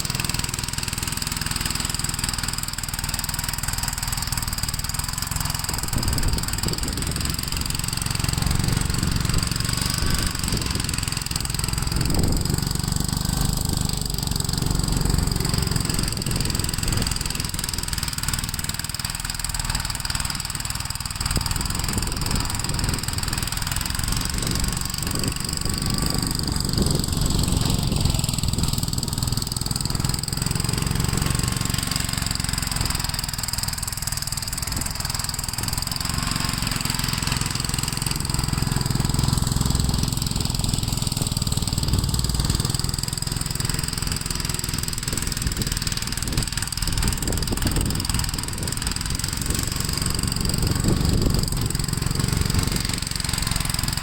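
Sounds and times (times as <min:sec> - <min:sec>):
walk-behind tractor engine running: 0:00.0 - 0:54.0.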